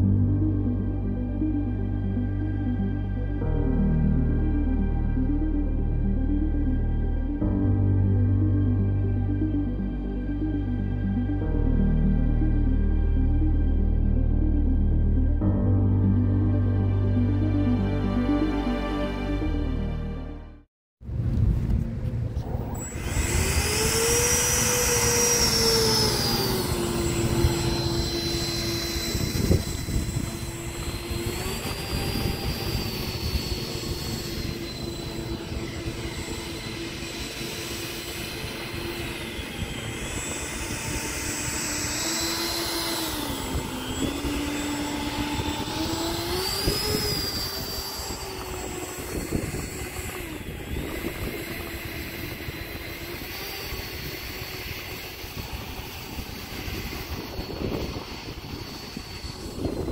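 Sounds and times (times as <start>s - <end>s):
jet motors whining: 0.0s - 20.0s, 21.7s - 59.9s.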